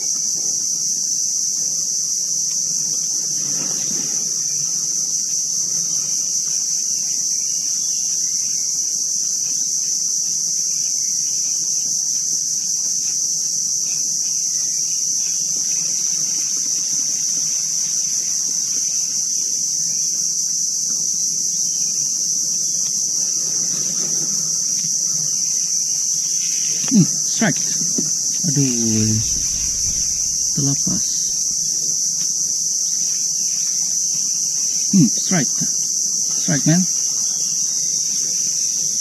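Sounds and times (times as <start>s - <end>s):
insects droning chorus: 0.0s - 39.0s.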